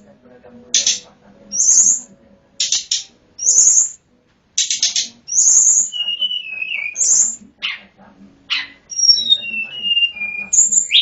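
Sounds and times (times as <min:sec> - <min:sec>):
high sharp bird calls: 0:00.8 - 0:04.0, 0:04.6 - 0:07.9, 0:08.5 - 0:11.0.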